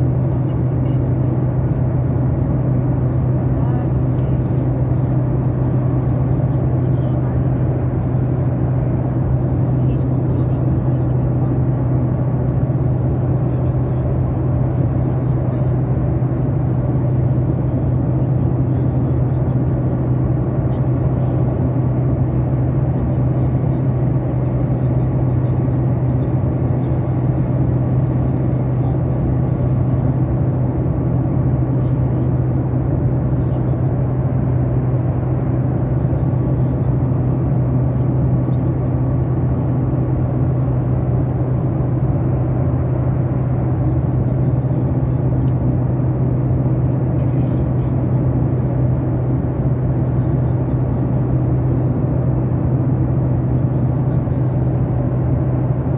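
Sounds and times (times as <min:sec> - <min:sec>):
jet engine cabin drone: 0:00.0 - 0:55.9.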